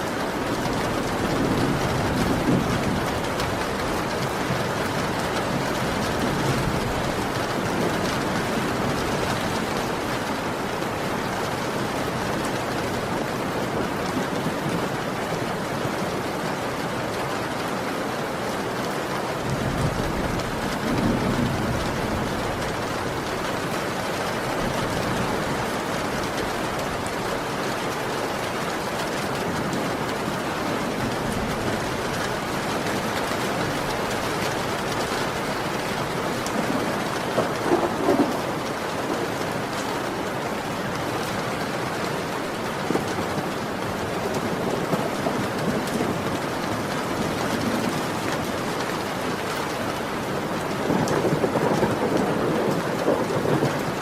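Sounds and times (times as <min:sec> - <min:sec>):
heavy rain: 0:00.0 - 0:54.0
thunder rumbling: 0:00.1 - 0:15.1, 0:19.5 - 0:54.0.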